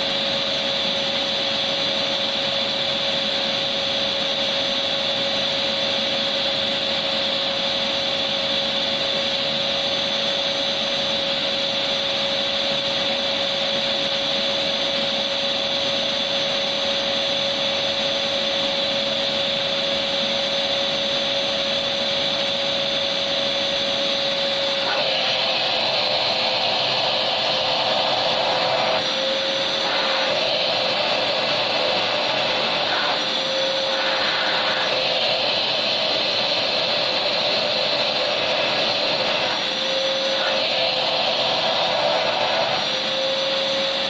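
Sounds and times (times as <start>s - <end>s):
vacuum cleaner motor running: 0.0s - 44.0s.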